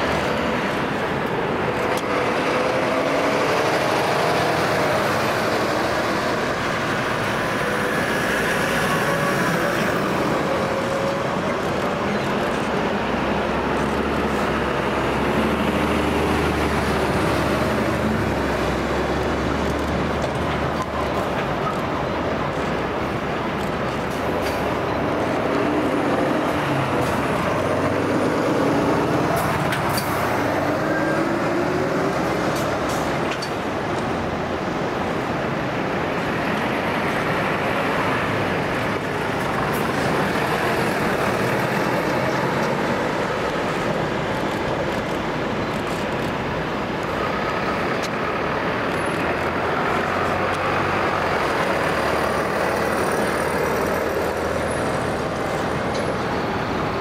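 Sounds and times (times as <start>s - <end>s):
diesel truck engines running: 0.0s - 57.0s
tyres on the road: 0.0s - 57.0s.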